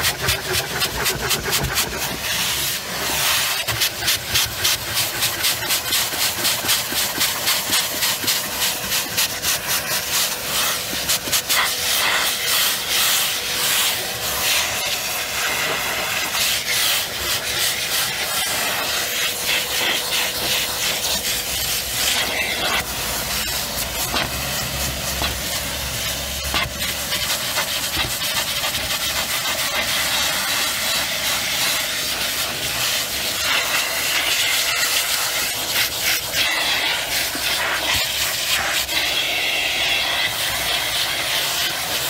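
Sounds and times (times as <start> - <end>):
vacuum cleaner hissing: 0.0 - 42.0.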